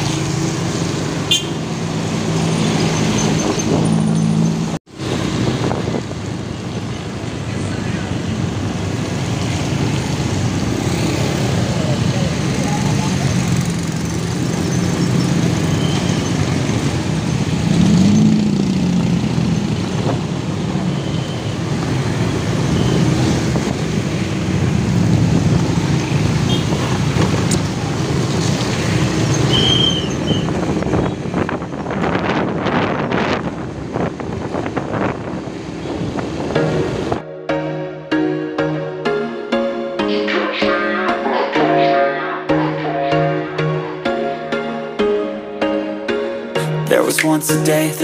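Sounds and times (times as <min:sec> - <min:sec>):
street traffic: 0:00.0 - 0:48.0.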